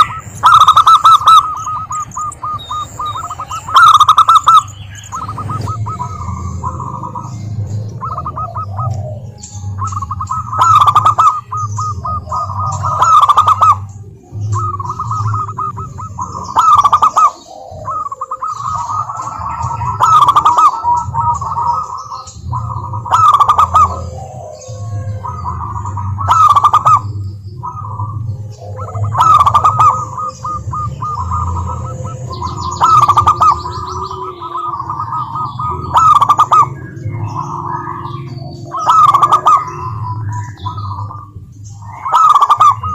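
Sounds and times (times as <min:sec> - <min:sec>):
dove cooing song: 0:00.0 - 0:42.9.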